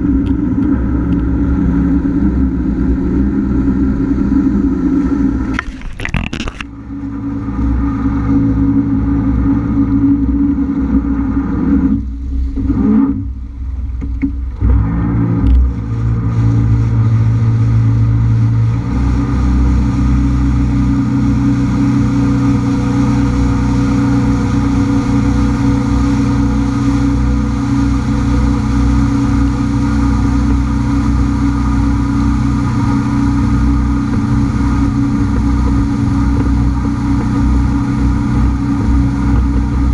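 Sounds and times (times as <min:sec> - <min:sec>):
watercraft engine running: 0:00.0 - 0:39.9.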